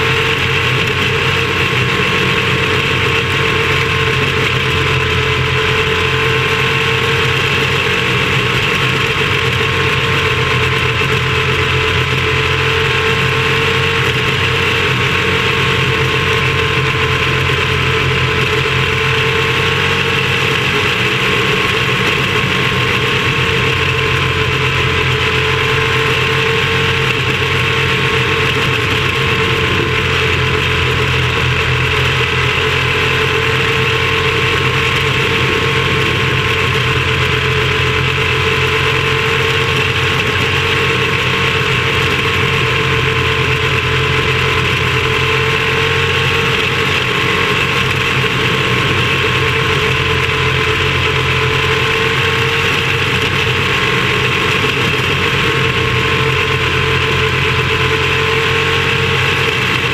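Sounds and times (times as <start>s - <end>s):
racing car engine at high revs: 0.0s - 59.9s.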